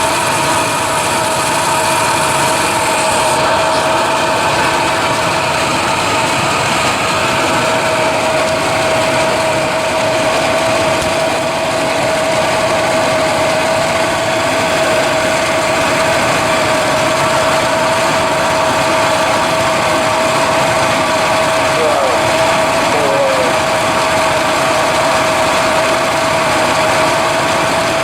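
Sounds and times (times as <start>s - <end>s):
machine running with whine: 0.0s - 28.0s.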